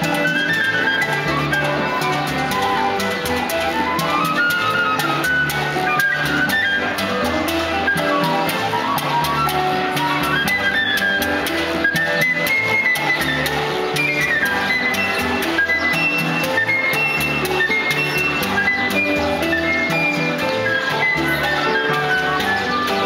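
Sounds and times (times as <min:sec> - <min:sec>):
instrumental melody: 0:00.0 - 0:23.0
regular percussion beat: 0:00.0 - 0:23.0.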